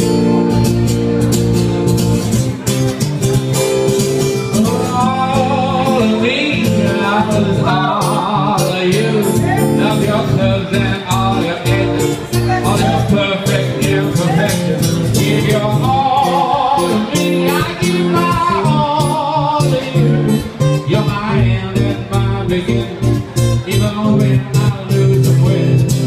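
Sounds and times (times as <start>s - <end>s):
acoustic guitars strummed: 0.0s - 26.0s
man singing: 4.2s - 26.0s.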